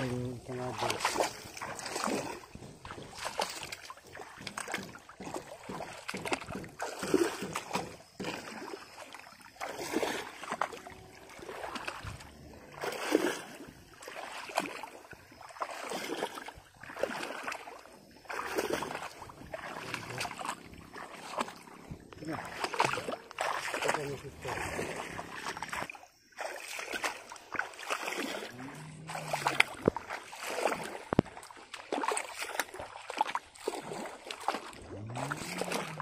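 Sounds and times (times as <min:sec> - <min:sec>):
legs sloshing through water: 0:00.0 - 0:36.0.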